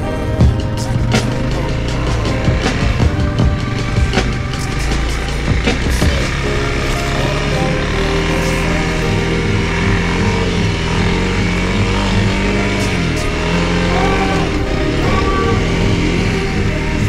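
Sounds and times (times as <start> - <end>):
background music: 0.0 - 17.0
motorcycle engine running: 0.0 - 17.0.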